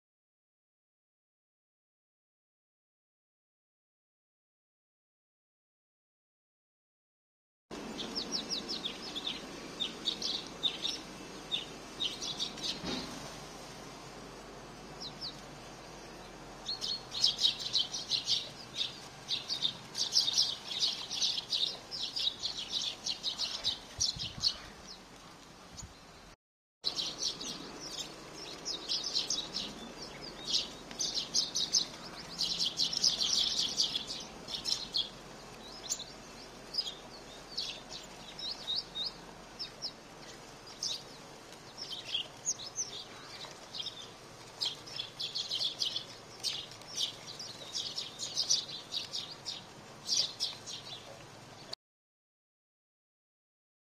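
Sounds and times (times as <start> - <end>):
sparrows chirping: 7.8 - 13.6, 14.4 - 51.8.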